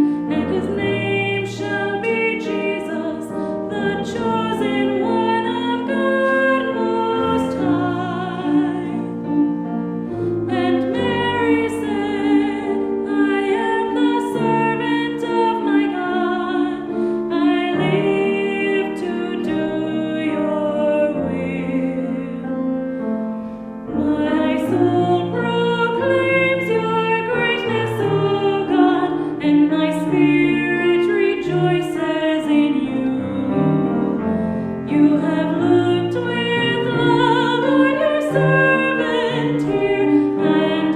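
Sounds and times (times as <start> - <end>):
voices singing a hymn: 0.0 - 22.6, 23.6 - 40.9
piano accompaniment: 0.0 - 40.9.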